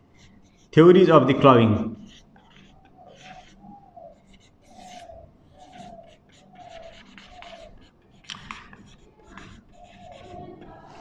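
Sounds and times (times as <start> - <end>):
marker squeaking on whiteboard: 0.2 - 11.0.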